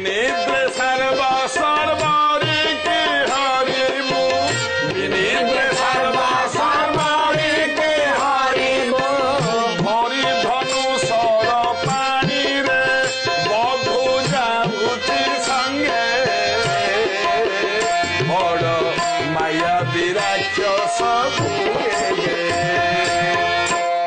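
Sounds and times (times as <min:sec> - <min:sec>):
harmonium and keyboard melody: 0:00.0 - 0:24.0
tabla playing: 0:00.0 - 0:24.0.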